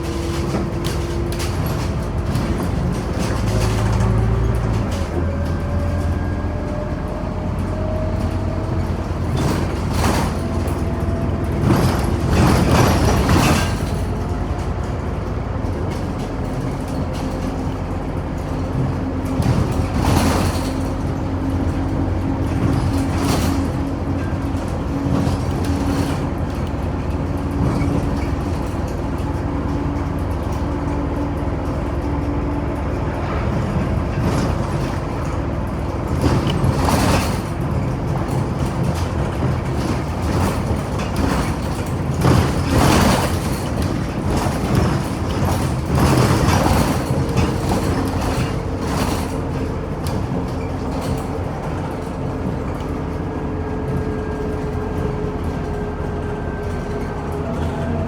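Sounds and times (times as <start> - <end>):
bus engine hum: 0.0 - 58.0
road rumble: 0.0 - 58.0.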